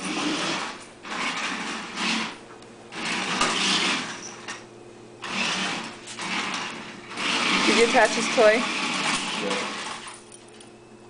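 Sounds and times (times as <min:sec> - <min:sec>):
toy car electric motor whirring: 0:00.0 - 0:04.6, 0:05.2 - 0:10.2.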